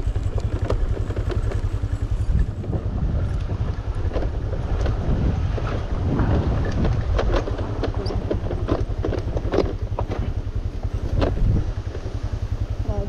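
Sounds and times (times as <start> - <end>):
bike clattering over stones: 0.0 - 12.3
scooter engine rumble: 0.0 - 13.0
wind on microphone: 0.0 - 13.0.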